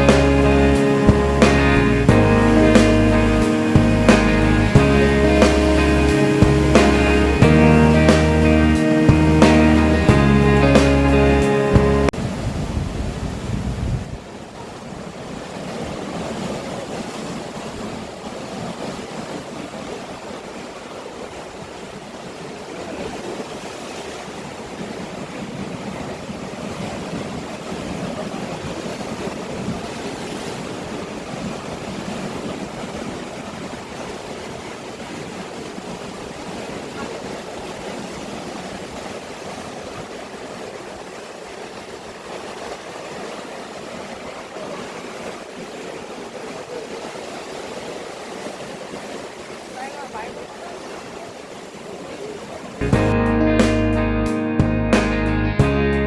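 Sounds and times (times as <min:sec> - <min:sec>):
waves breaking on rocks: 0:00.0 - 0:07.4, 0:12.0 - 0:52.8.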